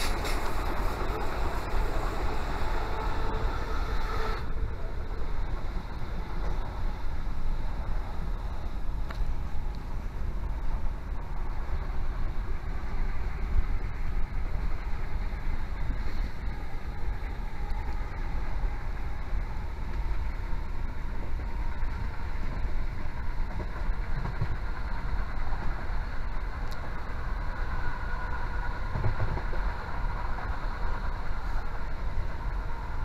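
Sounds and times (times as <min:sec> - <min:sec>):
diesel train rumbling: 0:00.0 - 0:33.0
train wheels on rails: 0:00.0 - 0:33.0.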